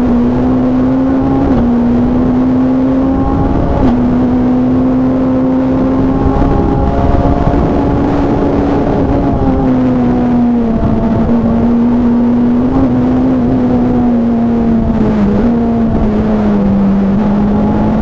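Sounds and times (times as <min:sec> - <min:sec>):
rally car engine: 0:00.0 - 0:18.0
road and tyre noise: 0:00.0 - 0:18.0.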